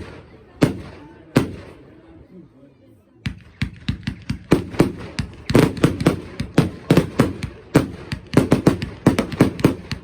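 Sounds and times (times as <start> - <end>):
fireworks bangs with echo: 0.0 - 2.0, 3.2 - 10.0.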